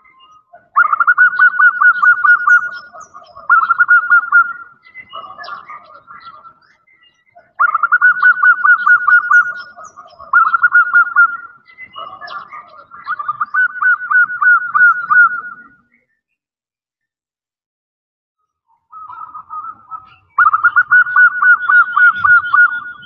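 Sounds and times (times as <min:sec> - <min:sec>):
dove pulsed cooing: 0:00.5 - 0:06.6, 0:07.4 - 0:15.8, 0:18.9 - 0:23.0.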